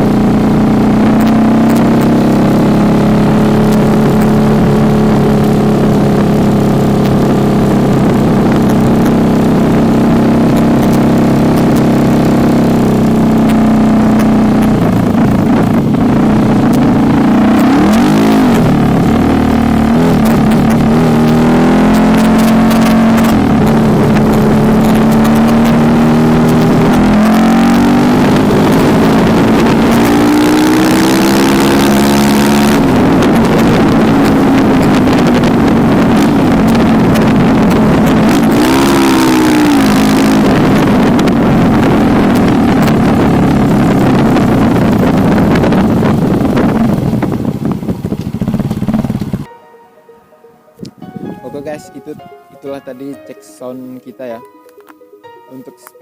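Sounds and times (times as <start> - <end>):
motorcycle engine revving: 0.0 - 49.5.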